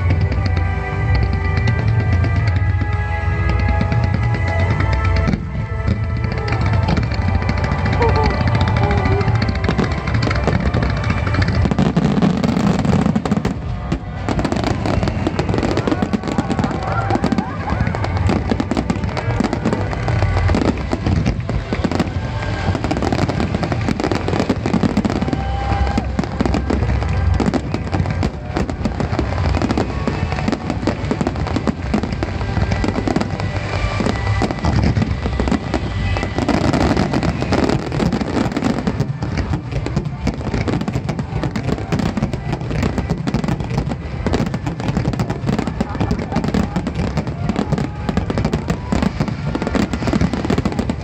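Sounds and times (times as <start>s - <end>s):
firework booms and crackles: 0.0s - 51.0s.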